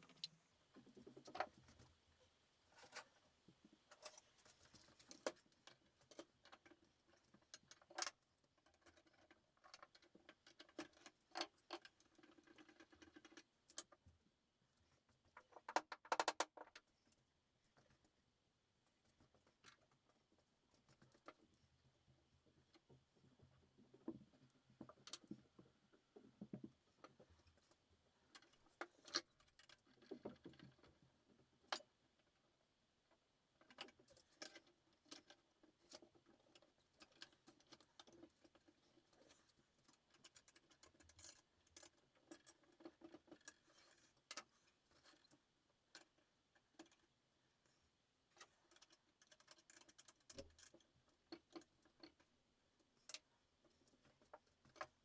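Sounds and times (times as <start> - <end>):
faint irregular clicks and taps: 0.0 - 55.0.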